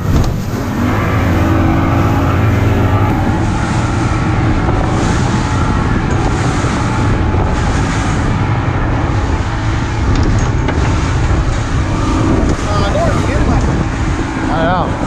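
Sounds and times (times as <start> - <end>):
boat engine: 0.0 - 15.0
water rushing past hull: 0.0 - 15.0
wind buffeting microphone: 0.0 - 15.0.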